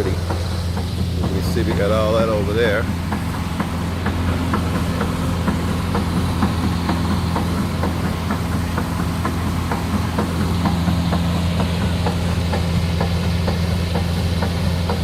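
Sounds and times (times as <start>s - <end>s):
heavy diesel truck engine: 0.0s - 15.0s.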